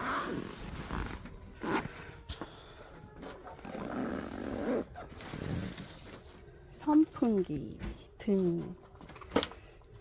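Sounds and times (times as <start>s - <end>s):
camping gear rustling and scraping: 0.1s - 10.0s.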